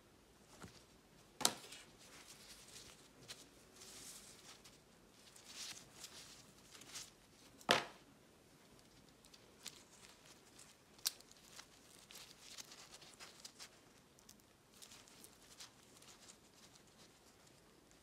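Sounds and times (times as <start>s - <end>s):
paper and fabric rustling: 0.4s - 7.6s, 8.6s - 14.0s, 14.7s - 18.0s.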